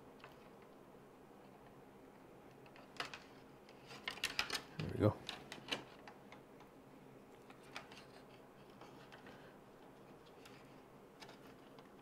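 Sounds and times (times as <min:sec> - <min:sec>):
faint ticks and clicks of wires: 0:01.4 - 0:12.0.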